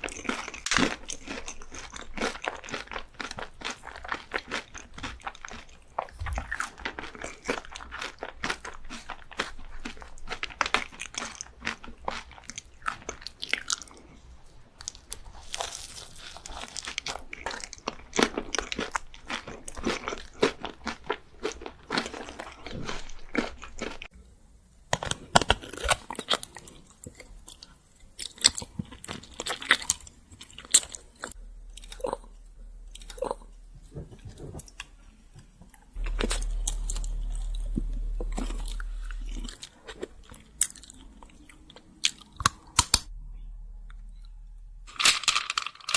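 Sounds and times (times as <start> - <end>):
crunchy chewing: 0.0 - 24.1, 25.0 - 43.1.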